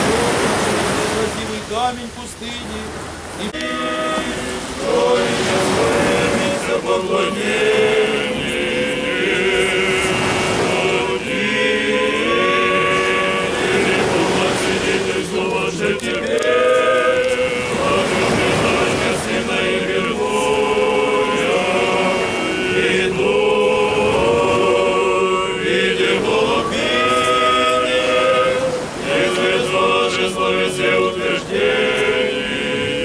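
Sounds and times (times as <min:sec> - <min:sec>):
choir chanting a cappella: 0:03.4 - 0:33.0.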